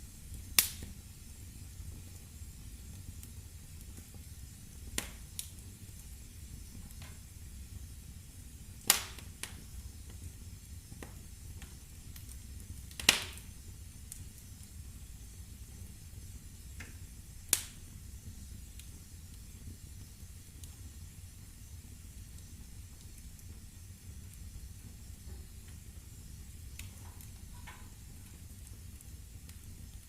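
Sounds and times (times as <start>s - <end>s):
burning logs popping: 0.0s - 30.0s
low steady rumble: 0.0s - 30.0s
wood fire crackling: 0.0s - 30.0s.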